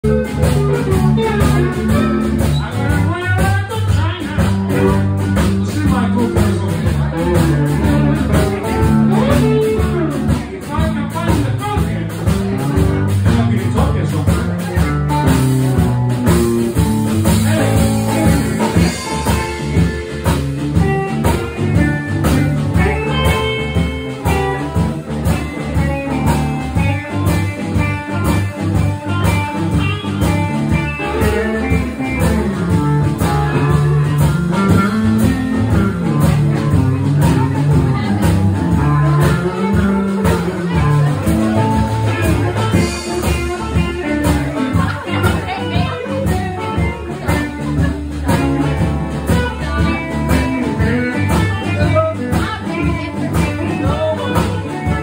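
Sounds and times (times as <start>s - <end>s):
live blues band: 0.0s - 55.0s.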